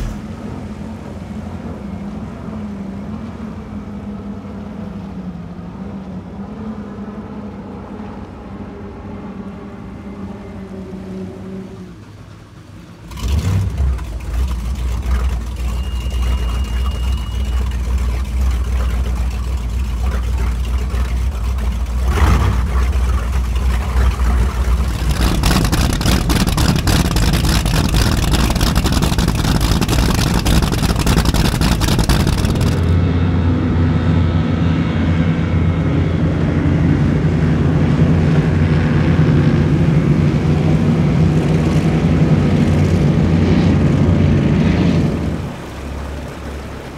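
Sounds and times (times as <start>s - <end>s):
powerboat engines rumbling: 0.0s - 46.9s.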